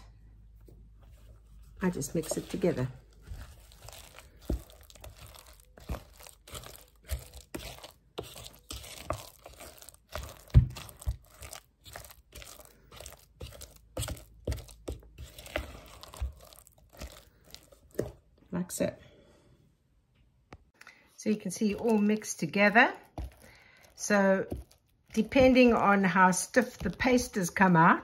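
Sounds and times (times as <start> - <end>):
wooden spoon mixing thick paste: 0.0 - 18.4, 21.2 - 28.0.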